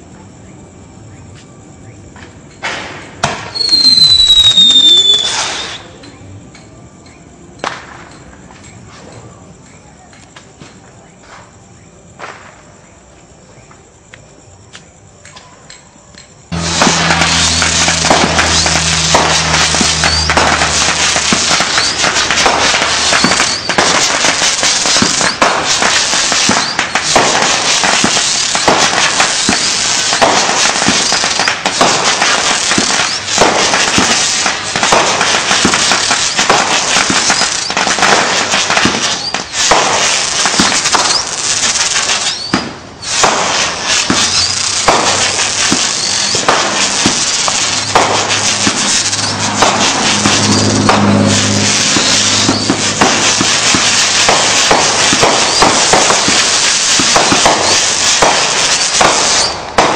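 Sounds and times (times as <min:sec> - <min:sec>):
fireworks bangs: 0:02.1 - 0:06.6, 0:07.6 - 0:12.8, 0:16.4 - 0:59.9.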